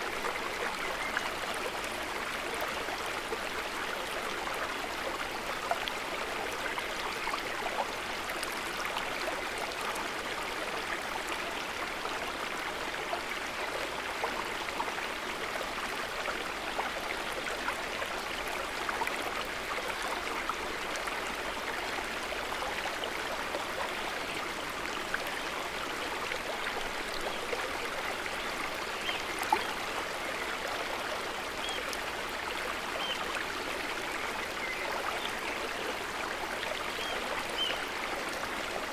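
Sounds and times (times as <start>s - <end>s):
river water running over stones: 0.0s - 38.9s.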